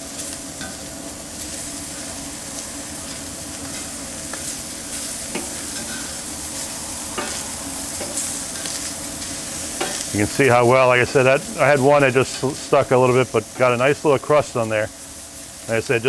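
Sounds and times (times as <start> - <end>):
meat sizzling on hot iron: 0.0 - 16.0.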